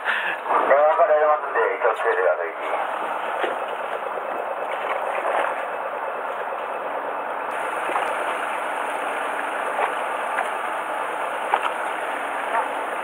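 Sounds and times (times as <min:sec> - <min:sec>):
boat and water drone: 0:00.0 - 0:13.0.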